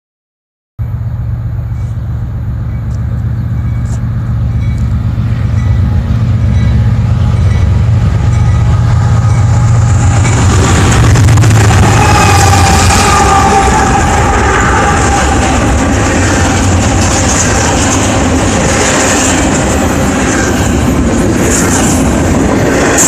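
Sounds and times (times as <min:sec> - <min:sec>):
diesel locomotives rumbling: 0:00.8 - 0:23.0
wheels rushing on rails: 0:00.8 - 0:23.0.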